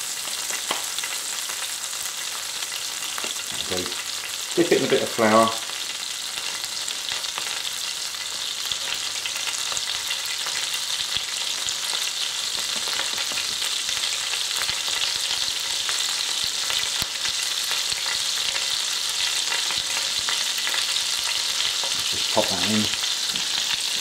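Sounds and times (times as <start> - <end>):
butter and oil sizzling in pan: 0.0 - 24.0.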